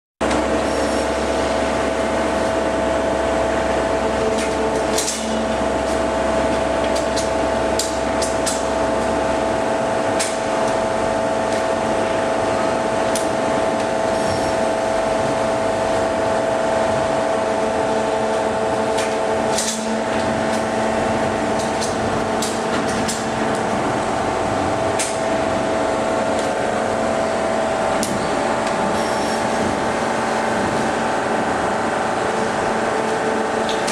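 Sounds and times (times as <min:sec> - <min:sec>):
baler mechanical whine: 0:00.2 - 0:33.9.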